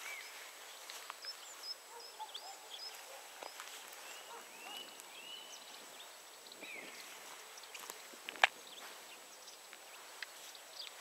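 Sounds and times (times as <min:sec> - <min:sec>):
faint background hiss: 0:00.0 - 0:11.0
small birds chirping: 0:00.0 - 0:11.0.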